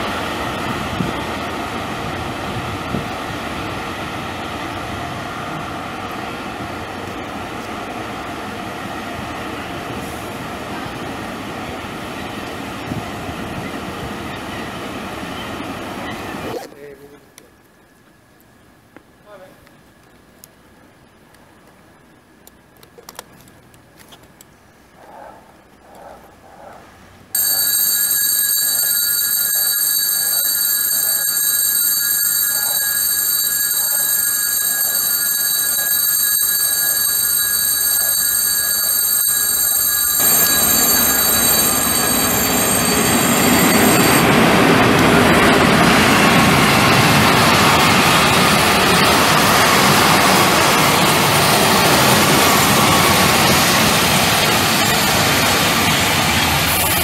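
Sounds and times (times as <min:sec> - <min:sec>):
high steady train whine: 0:00.0 - 0:22.4, 0:27.0 - 0:57.0.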